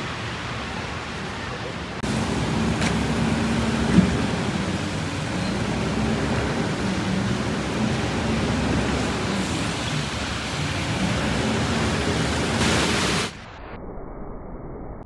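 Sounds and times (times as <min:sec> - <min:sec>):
car tyres on wet street: 0:00.0 - 0:13.4
vehicle engines running low: 0:00.0 - 0:13.4
rain hissing: 0:00.0 - 0:13.6.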